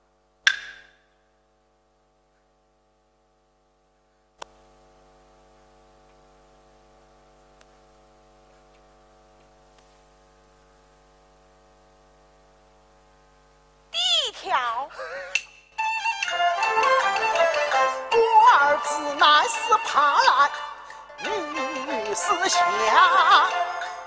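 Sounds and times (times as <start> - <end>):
faint electrical mains hum: 0.0 - 24.0.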